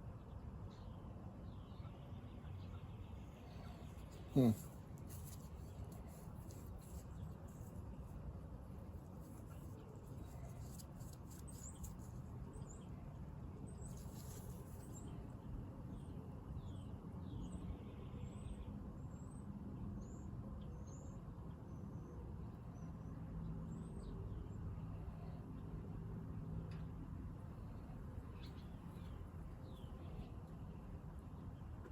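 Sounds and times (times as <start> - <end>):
small birds chirping: 0.2 - 19.4, 20.0 - 31.9.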